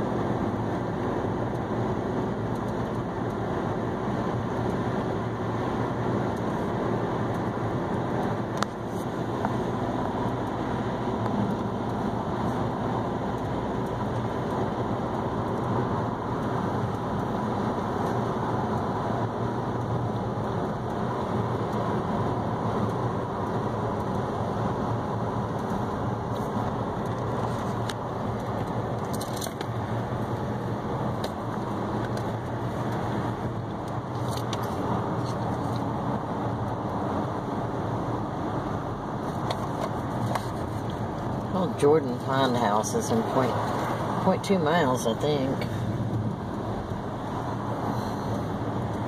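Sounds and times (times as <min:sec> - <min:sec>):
car road noise from inside: 0:00.0 - 0:49.0.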